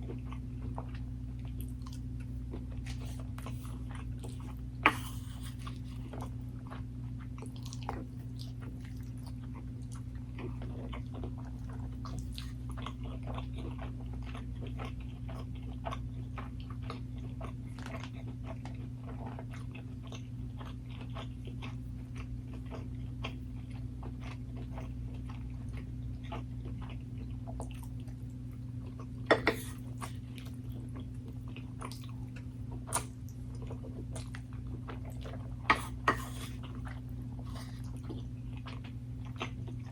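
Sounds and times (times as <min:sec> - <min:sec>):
chewing and biting: 0:00.0 - 0:39.9
steady low hum: 0:00.0 - 0:39.9.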